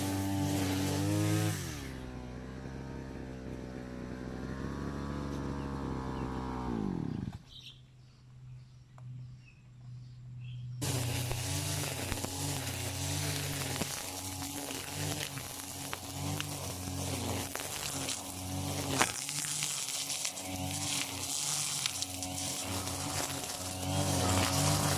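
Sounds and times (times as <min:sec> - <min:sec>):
brush cutter engine: 0:00.0 - 0:07.6, 0:10.4 - 0:24.9.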